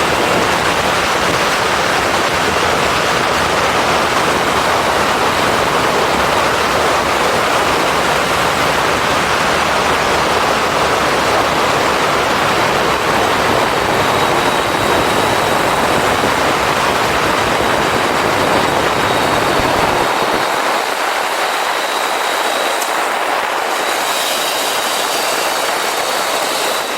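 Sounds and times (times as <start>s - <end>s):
motorcycle road noise: 0.0s - 26.9s
wind rush: 0.0s - 26.9s.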